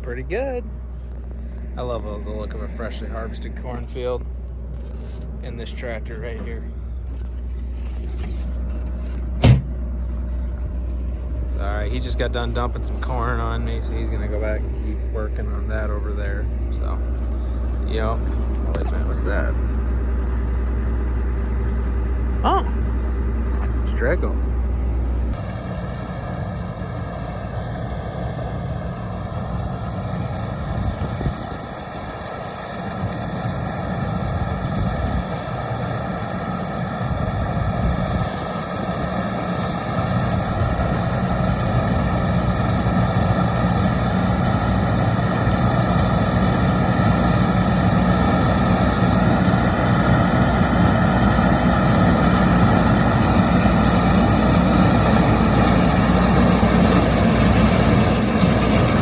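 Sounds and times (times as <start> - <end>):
constant machine whine: 0.0 - 59.0
diesel farm machinery running: 0.0 - 59.0.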